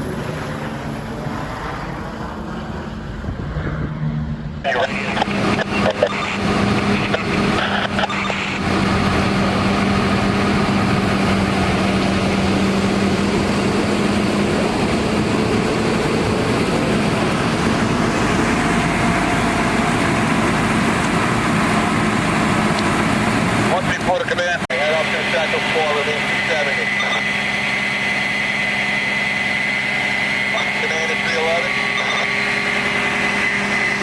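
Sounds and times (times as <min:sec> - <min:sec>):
fire engine running: 0:00.0 - 0:03.5, 0:04.3 - 0:34.0.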